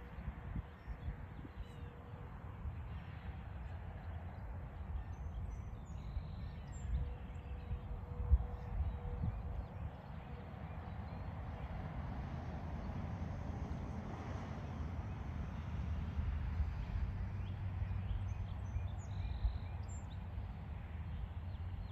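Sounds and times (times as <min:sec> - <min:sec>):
wind rumbling on microphone: 0:00.0 - 0:21.9.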